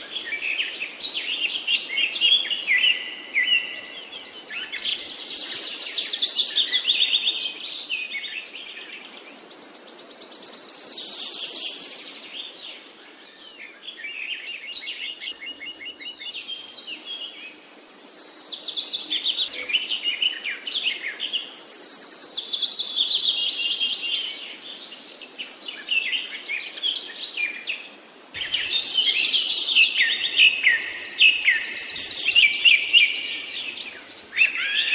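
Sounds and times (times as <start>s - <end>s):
songbirds twittering and whistling: 0.0s - 34.9s.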